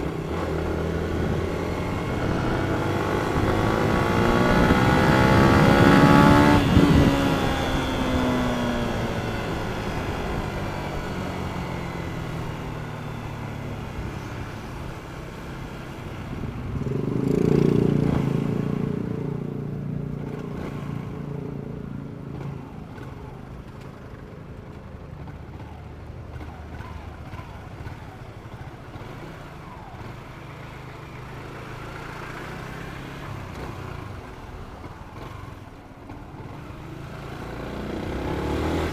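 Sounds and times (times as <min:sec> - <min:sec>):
motorcycle passing: 0:00.0 - 0:27.6, 0:28.6 - 0:38.9
traffic noise: 0:00.0 - 0:38.9.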